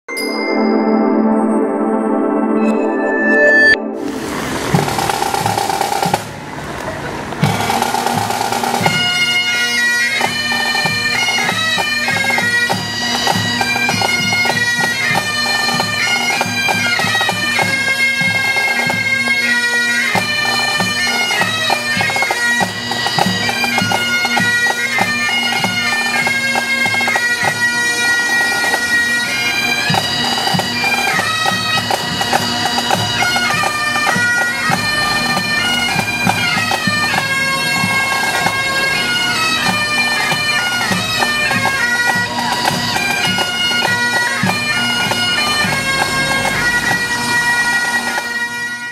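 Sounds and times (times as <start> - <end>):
bagpipes playing a tune: 3.6 - 6.2, 7.4 - 48.9
drums beating: 4.0 - 6.6, 7.2 - 9.4, 10.2 - 19.1, 20.1 - 48.3.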